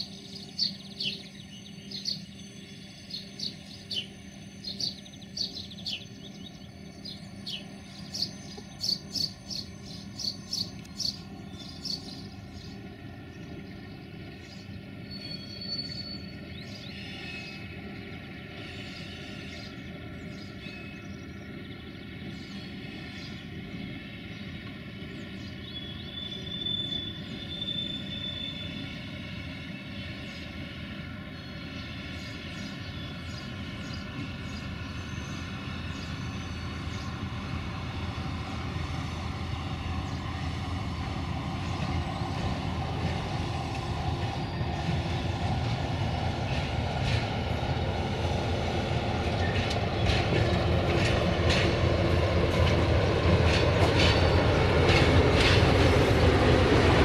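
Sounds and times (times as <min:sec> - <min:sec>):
birds chirping: 0:00.0 - 0:57.0
diesel locomotive engine rumble: 0:00.0 - 0:57.0.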